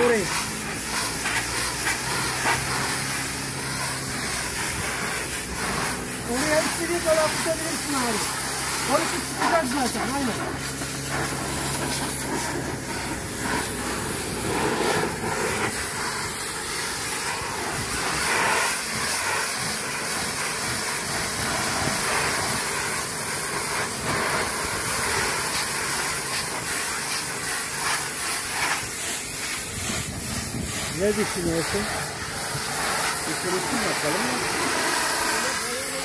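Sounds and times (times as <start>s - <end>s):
pressure washer spraying: 0.0s - 36.0s.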